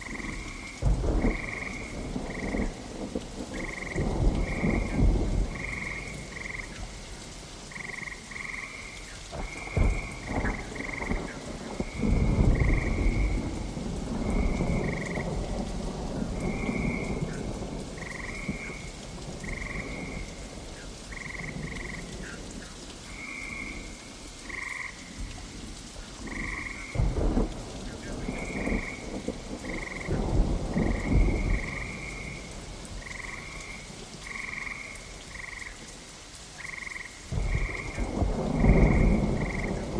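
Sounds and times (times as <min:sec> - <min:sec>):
thunder rumbling: 0:00.0 - 0:07.0, 0:07.7 - 0:25.6, 0:26.2 - 0:35.6, 0:37.3 - 0:39.9
frogs croaking: 0:00.0 - 0:39.9
steady rain: 0:00.0 - 0:39.9.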